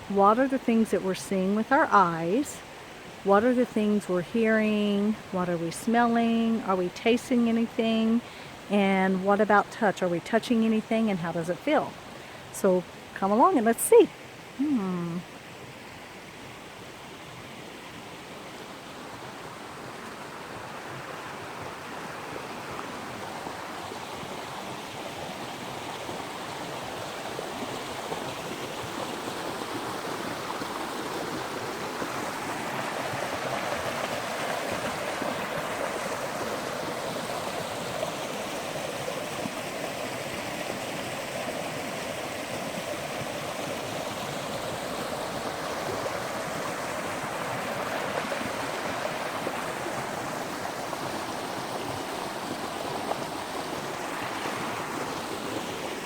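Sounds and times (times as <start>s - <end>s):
creek water rushing over rocks: 0.0s - 8.7s, 15.2s - 56.0s.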